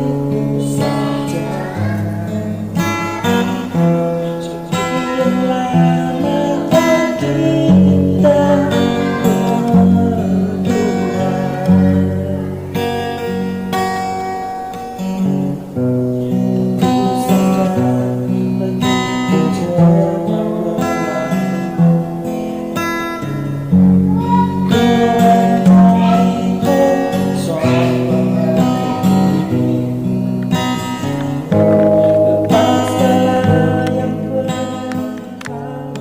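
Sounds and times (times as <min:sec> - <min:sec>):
person singing: 0:00.0 - 0:15.3, 0:16.2 - 0:36.0
strummed acoustic guitar: 0:00.0 - 0:36.0.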